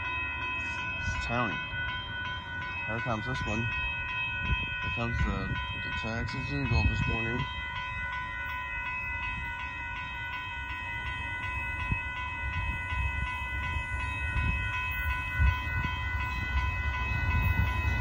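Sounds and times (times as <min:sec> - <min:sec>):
low train rumble: 0:00.0 - 0:18.0
railroad crossing bells ringing: 0:00.0 - 0:18.0.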